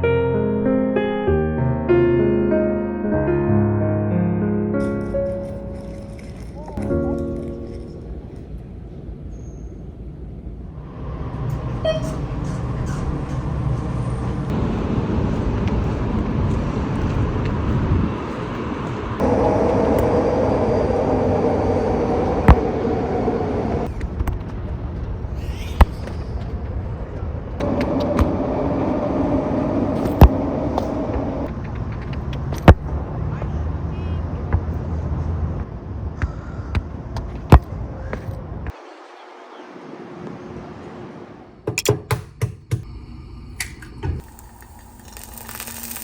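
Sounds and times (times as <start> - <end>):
vehicle traffic rumble: 4.8 - 41.6.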